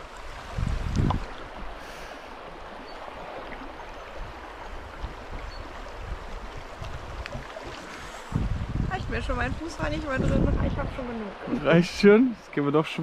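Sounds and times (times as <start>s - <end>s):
creek water rushing over stones: 0.0s - 13.0s.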